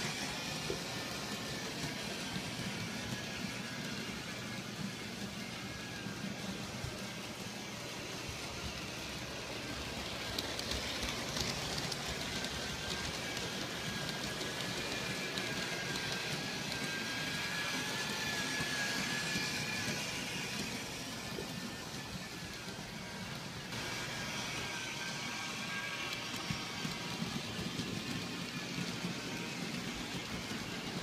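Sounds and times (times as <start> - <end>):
electric motor whine: 0.0 - 31.0
model train wheels rumbling: 0.0 - 31.0.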